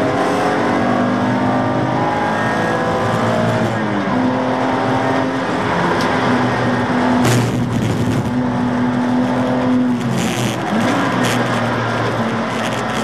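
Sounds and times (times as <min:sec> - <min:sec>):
race car engine under load: 0:00.0 - 0:13.0.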